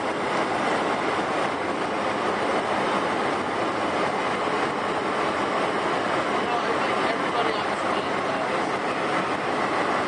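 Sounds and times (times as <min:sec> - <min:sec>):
aircraft cabin noise: 0:00.0 - 0:10.0.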